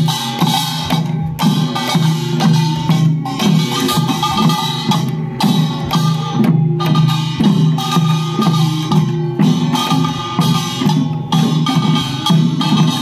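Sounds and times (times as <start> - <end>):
folk dance melody: 0.0 - 13.0
sharp percussion strikes: 0.0 - 13.0.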